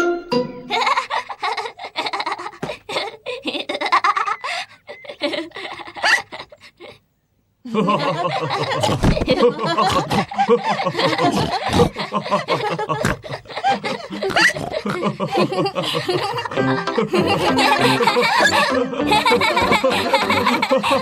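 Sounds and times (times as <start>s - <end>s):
cartoon characters laughing: 0.7s - 7.0s, 7.7s - 21.0s.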